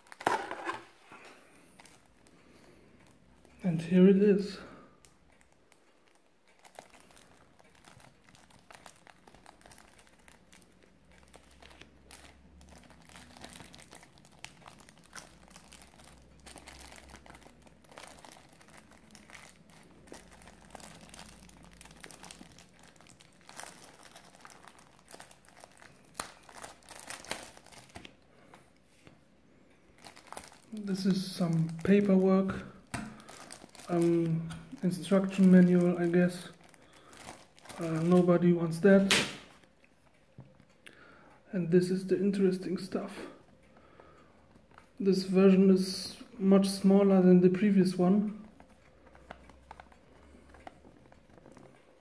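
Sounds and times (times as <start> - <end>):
plastic packaging crinkling: 0.0 - 28.8, 29.7 - 40.2, 47.5 - 52.0.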